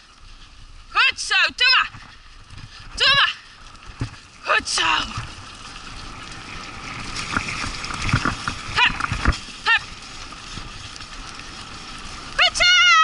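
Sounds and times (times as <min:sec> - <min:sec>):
scooter rolling over dirt trail: 0:01.8 - 0:13.0.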